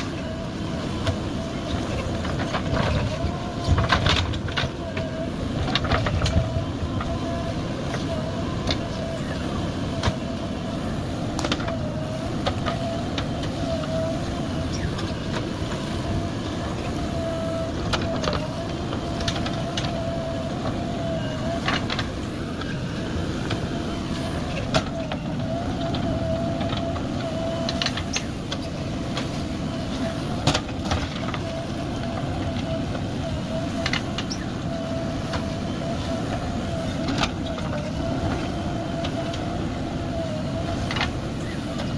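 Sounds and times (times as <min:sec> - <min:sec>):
diesel engine running: 0:00.0 - 0:41.9
wavering whine: 0:00.0 - 0:41.9.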